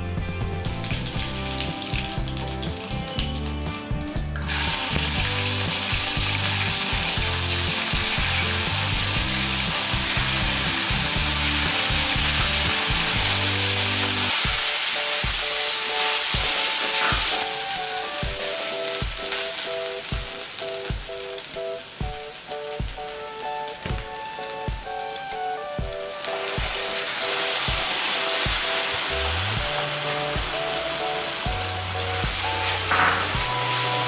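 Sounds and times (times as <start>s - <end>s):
background music: 0.0s - 34.0s
seeds crackling in hot oil: 0.2s - 34.0s
paste sizzling in oil: 4.4s - 23.6s, 24.4s - 34.0s.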